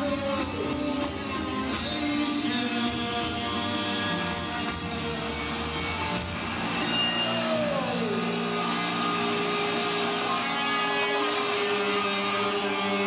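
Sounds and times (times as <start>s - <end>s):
electric guitar feedback drone: 0.0s - 13.0s.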